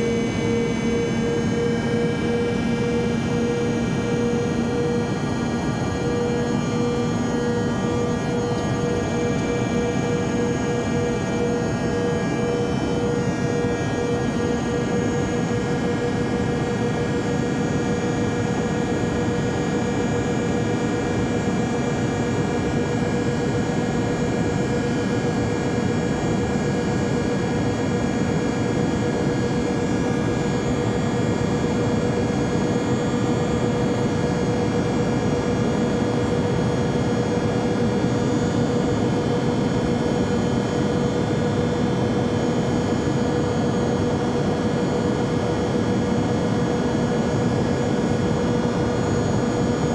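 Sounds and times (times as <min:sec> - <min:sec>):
jet airliner cabin drone: 0:00.0 - 0:49.9.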